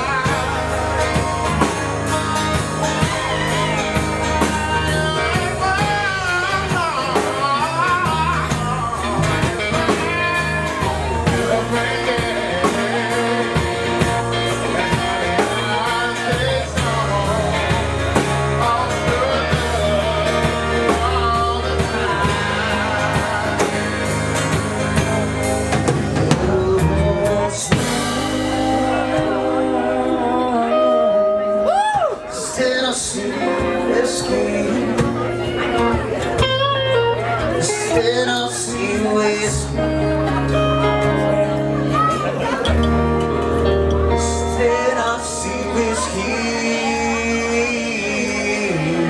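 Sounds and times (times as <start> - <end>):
steady bass line: 0.0 - 32.3, 33.1 - 49.0
bending guitar lead melody: 0.0 - 49.0.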